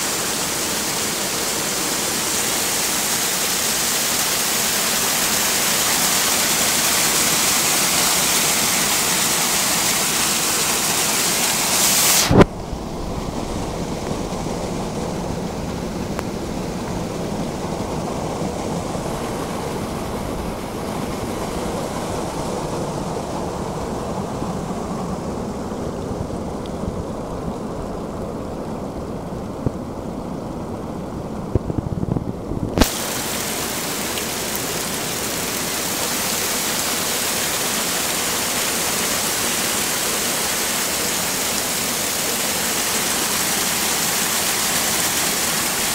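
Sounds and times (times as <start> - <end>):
mountain stream rushing water: 0.0 - 31.2, 32.8 - 45.9.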